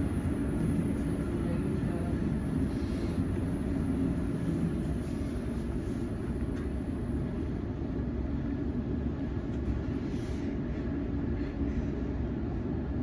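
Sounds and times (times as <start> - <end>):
train carriage rumble and hum: 0.0 - 13.0.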